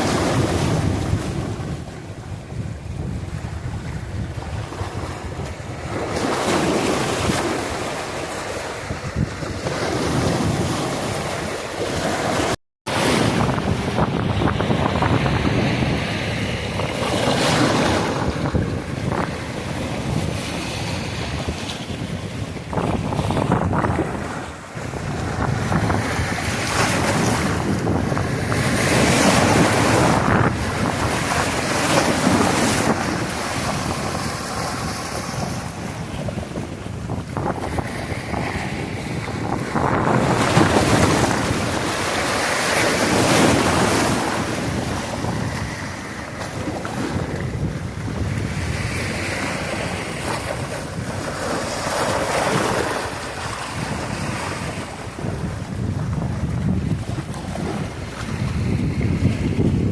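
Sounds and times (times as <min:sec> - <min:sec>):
ocean waves washing in: 0:00.0 - 0:59.9
wind rumbling on microphone: 0:00.0 - 0:59.9.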